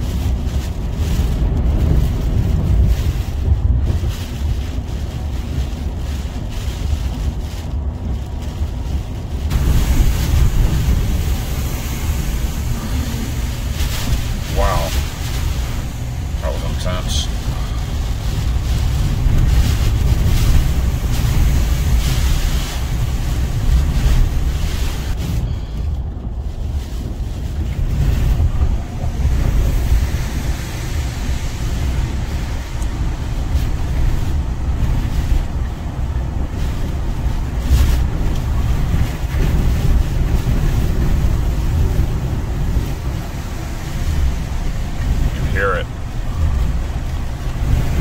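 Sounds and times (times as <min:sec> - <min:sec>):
roaring hurricane winds: 0:00.0 - 0:48.0
wind buffeting microphone: 0:00.0 - 0:48.0.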